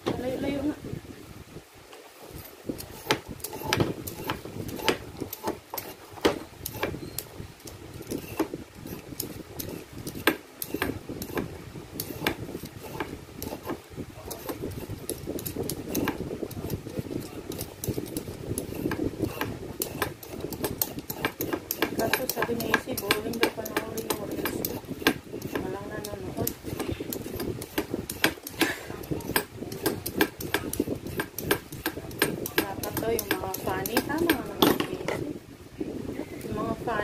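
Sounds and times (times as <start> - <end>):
steady low hum: 0.0 - 37.0
peeler scraping carrot: 2.3 - 35.0.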